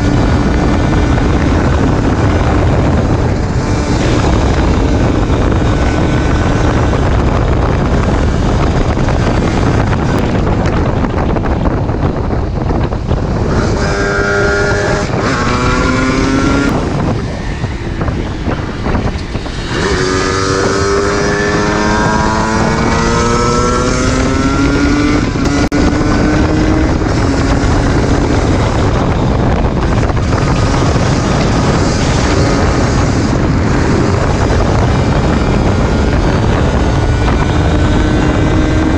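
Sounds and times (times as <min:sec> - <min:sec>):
two-stroke motorcycle engine revving: 0:00.0 - 0:38.9
wind noise on microphone: 0:00.0 - 0:38.9.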